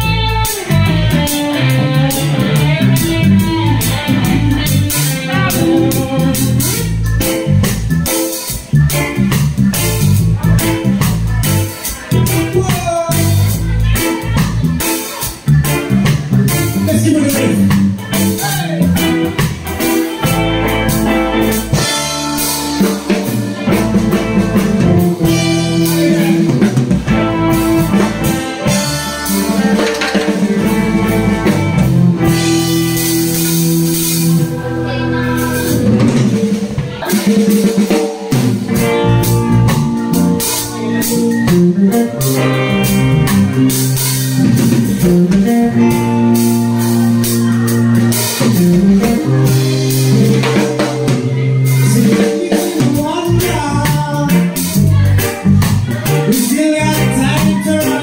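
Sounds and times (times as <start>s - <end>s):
drum kit: 0.0s - 58.0s
electric bass guitar: 0.0s - 58.0s
keyboard: 0.0s - 58.0s.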